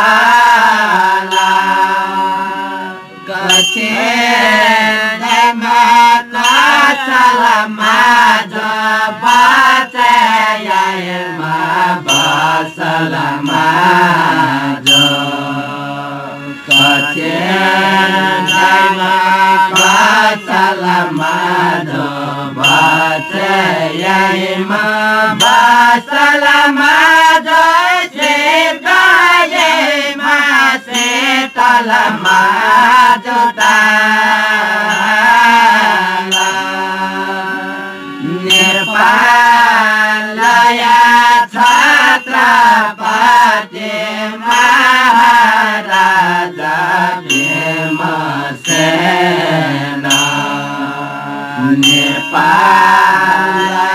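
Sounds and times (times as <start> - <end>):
group chanting in unison: 0.0 - 53.9
hand cymbals: 0.0 - 53.9
harmonium: 0.0 - 53.9.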